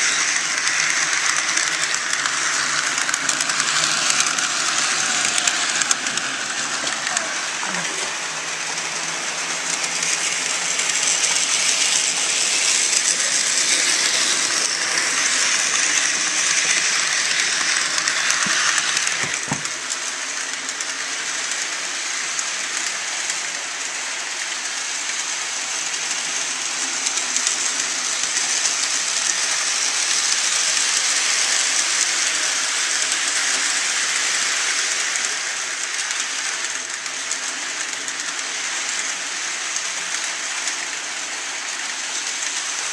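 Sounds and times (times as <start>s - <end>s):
model train wheels rattling: 0.0s - 42.9s.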